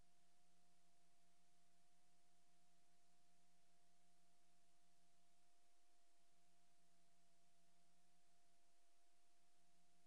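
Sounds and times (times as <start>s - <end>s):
faint steady hum and hiss: 0.0s - 10.0s.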